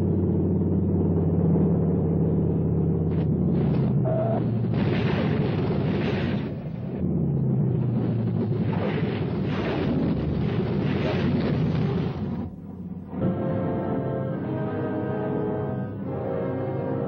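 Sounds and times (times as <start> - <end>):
propeller aircraft engine drone: 0.0 - 17.0
rough rumbling noise: 0.0 - 17.0.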